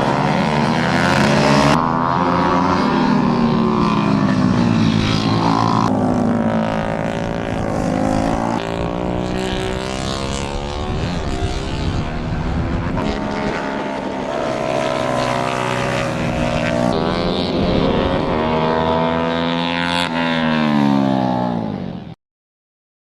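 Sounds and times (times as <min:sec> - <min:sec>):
minibike engines revving: 0:00.0 - 0:21.4.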